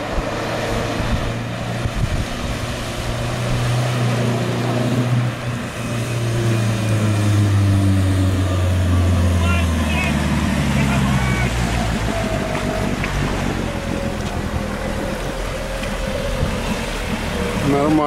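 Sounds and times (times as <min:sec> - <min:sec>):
suv engine under load: 0:00.0 - 0:18.0
water rushing and splashing: 0:00.0 - 0:18.0.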